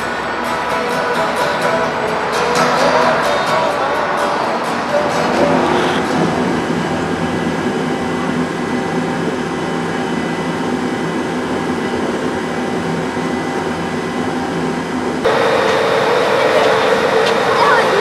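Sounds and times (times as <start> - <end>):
locomotive cooling fans humming: 0.0 - 18.0
steady tones: 0.0 - 18.0
train hall mechanical drone: 0.0 - 18.0.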